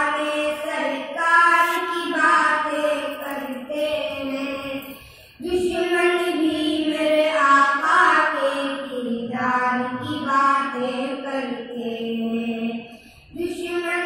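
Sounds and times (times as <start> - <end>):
boys singing unaccompanied: 0.0 - 12.8.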